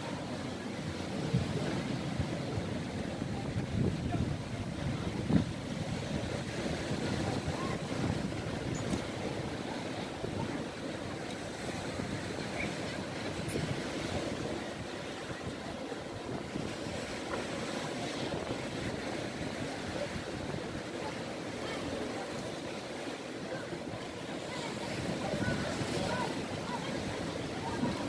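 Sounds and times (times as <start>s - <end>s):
waves breaking against stone wall: 0.0s - 28.0s.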